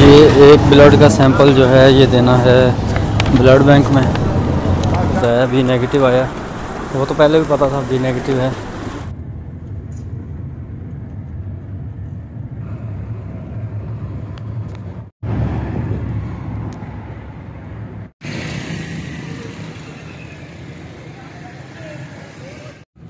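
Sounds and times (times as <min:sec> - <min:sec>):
car road and engine rumble: 0:00.0 - 0:22.9.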